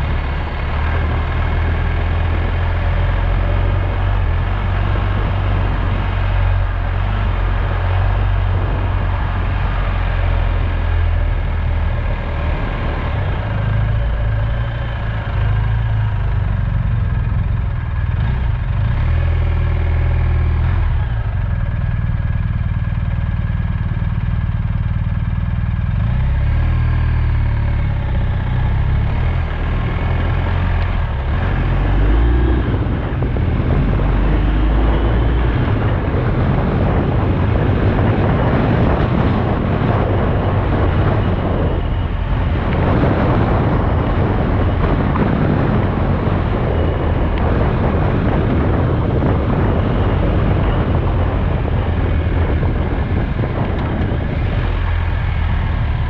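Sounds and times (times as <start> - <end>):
wind on microphone: 0.0 - 22.8, 27.6 - 56.0
road noise: 0.0 - 56.0.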